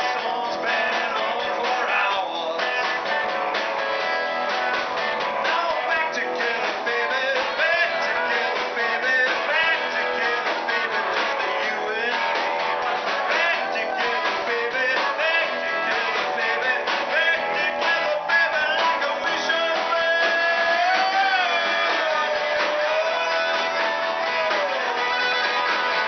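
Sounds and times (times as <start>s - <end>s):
drum kit: 0.0s - 26.0s
electric guitar: 0.0s - 26.0s
rock band playing: 0.0s - 26.0s.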